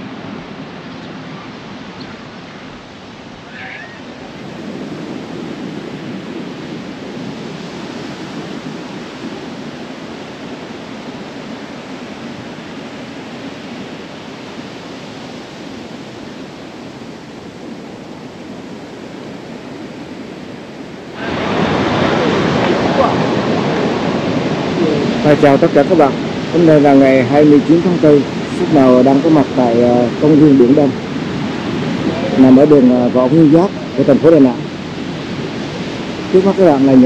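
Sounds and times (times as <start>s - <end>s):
wind and surf: 0.0s - 37.0s
wind rumbling on microphone: 0.0s - 37.0s.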